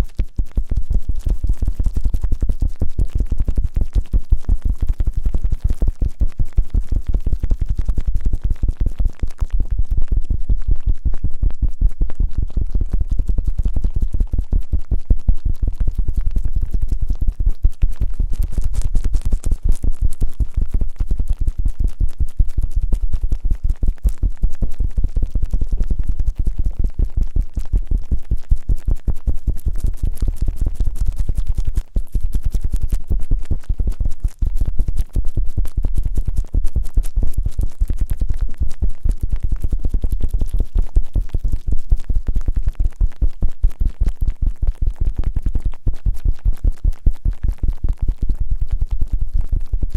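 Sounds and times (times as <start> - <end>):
rough scratching on microphone: 0.0 - 49.9.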